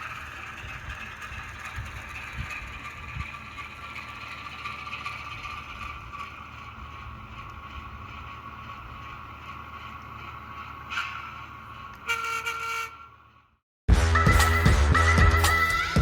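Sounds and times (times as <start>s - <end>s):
model diesel engine sound: 0.0s - 16.0s
model train rumbling on track: 0.0s - 16.0s.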